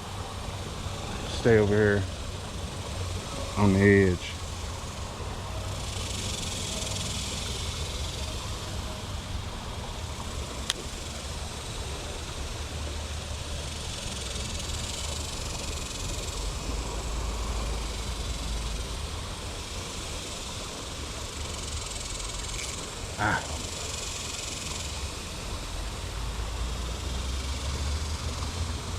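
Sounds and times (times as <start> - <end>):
high hiss: 0.0 - 28.9.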